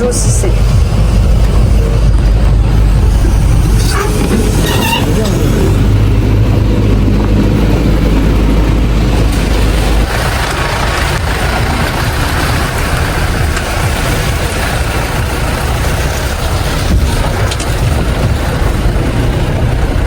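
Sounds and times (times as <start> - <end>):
road noise hiss: 0.0 - 20.0
vehicle engine rumble: 0.0 - 20.0.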